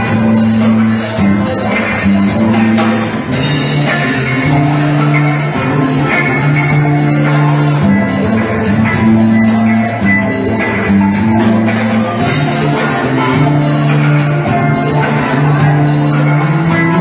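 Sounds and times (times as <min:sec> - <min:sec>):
bass line: 0:00.0 - 0:17.0
drum kit with cymbals: 0:00.0 - 0:17.0
guitar: 0:00.0 - 0:17.0.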